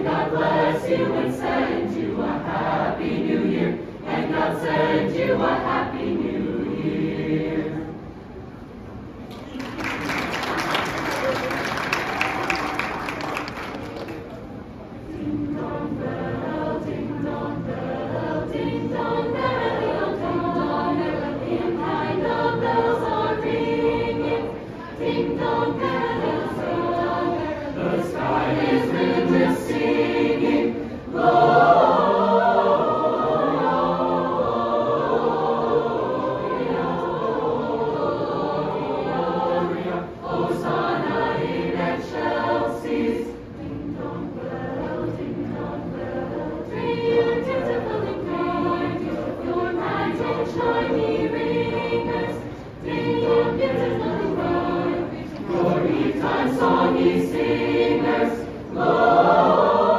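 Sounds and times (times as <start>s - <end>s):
mixed choir singing unaccompanied: 0.0s - 8.4s, 9.8s - 14.2s, 14.9s - 59.9s.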